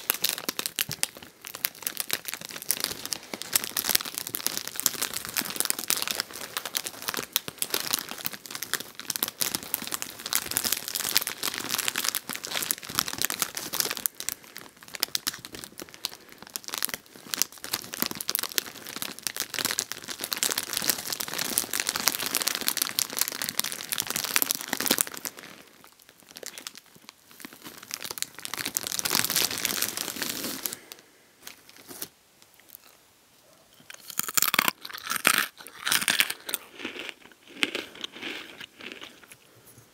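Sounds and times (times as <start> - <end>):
plastic bag crinkling: 0.0 - 32.1.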